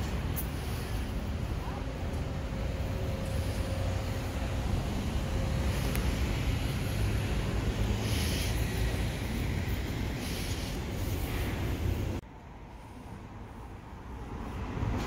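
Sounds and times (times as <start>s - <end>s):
car traffic rumbling: 0.0s - 15.0s.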